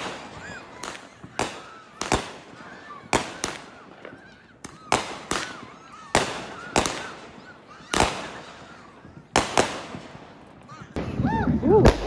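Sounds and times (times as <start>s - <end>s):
fireworks bangs: 0.0s - 12.0s
fireworks crackling: 0.0s - 12.0s
fireworks whistling: 0.0s - 12.0s.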